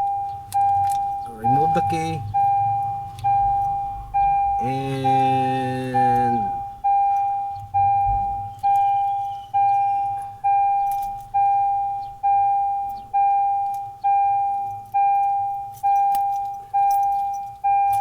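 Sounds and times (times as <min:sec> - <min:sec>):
electronic warning chime: 0:00.0 - 0:18.0.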